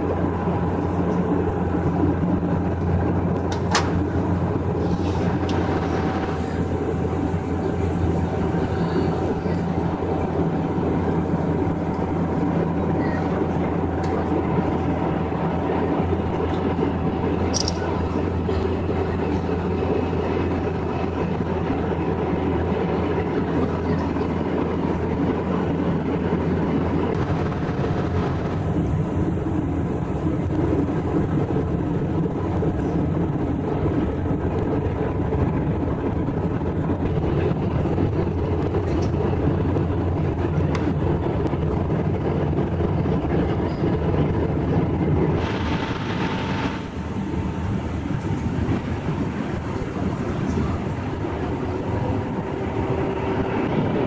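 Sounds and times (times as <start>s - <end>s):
constant hum tones: 0.0s - 54.0s
jet engine cabin drone: 0.0s - 54.0s.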